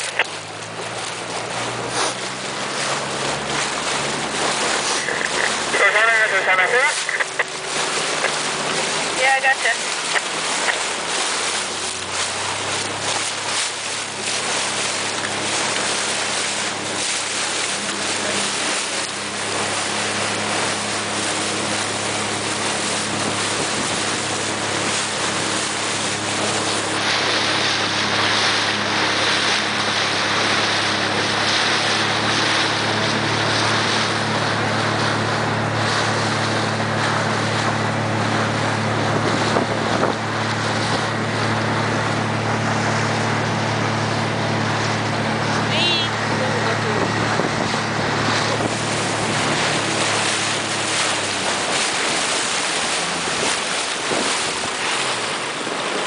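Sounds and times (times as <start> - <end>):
outboard motor running: 0.0 - 56.0
water rushing: 0.0 - 56.0
wind: 0.0 - 56.0.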